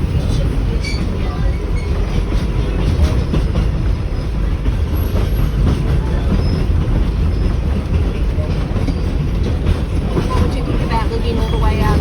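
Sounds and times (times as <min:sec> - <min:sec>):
train rumble from inside carriage: 0:00.0 - 0:12.0.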